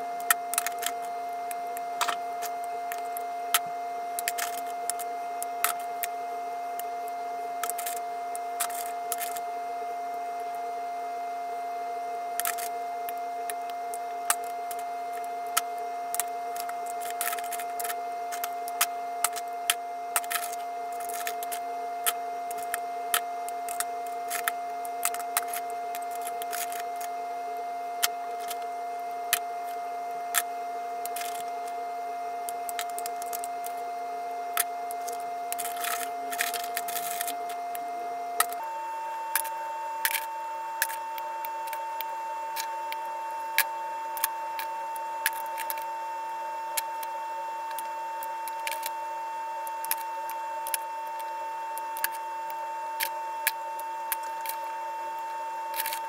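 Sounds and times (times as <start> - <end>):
machine hum with high whine: 0.0 - 56.0.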